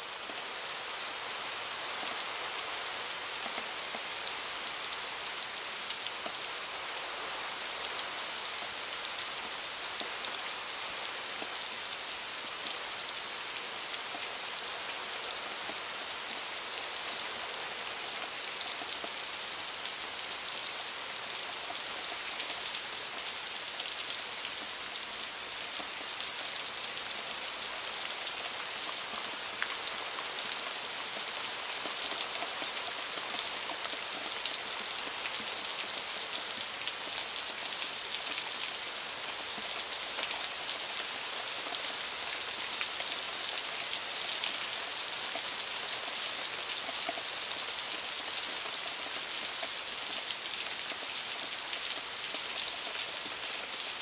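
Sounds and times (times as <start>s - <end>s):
light rain hiss: 0.0s - 54.0s.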